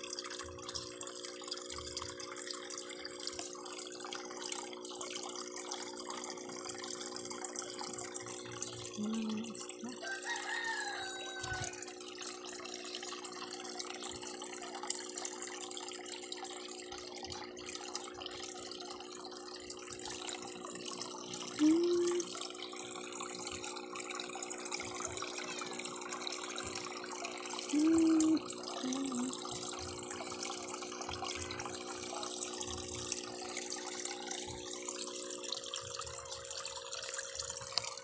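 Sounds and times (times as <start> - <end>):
even hum: 0.0 - 10.1, 16.7 - 38.0.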